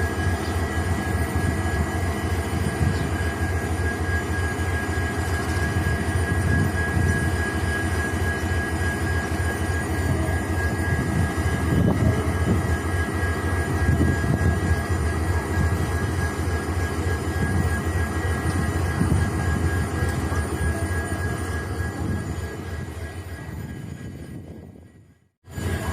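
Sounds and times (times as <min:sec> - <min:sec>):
diesel locomotive engines humming: 0:00.0 - 0:25.9
thin high whine: 0:00.0 - 0:25.9.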